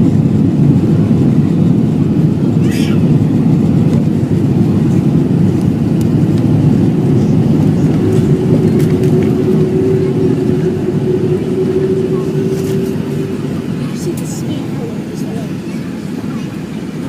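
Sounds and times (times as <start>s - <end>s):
aircraft cabin rumble: 0.0s - 17.0s
steady hum: 0.0s - 17.0s.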